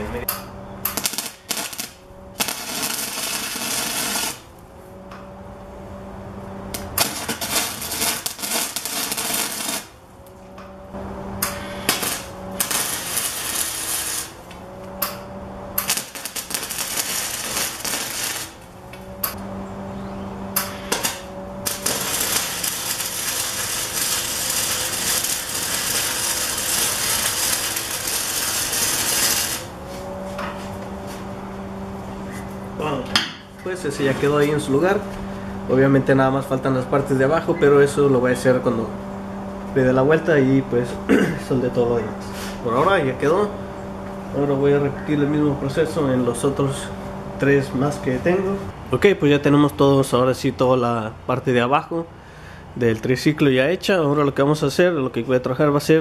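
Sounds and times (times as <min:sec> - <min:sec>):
welding arc crackling: 0:00.0 - 0:05.3, 0:06.4 - 0:19.5, 0:20.4 - 0:48.6.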